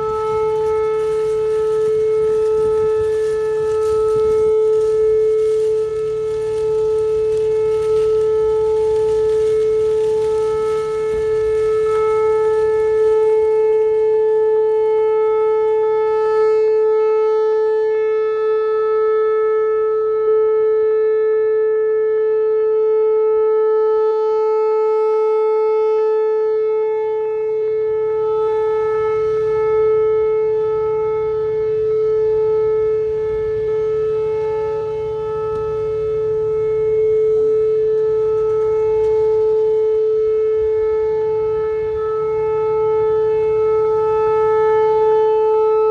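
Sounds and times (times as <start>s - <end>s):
tornado warning siren steady tone: 0.0s - 45.9s.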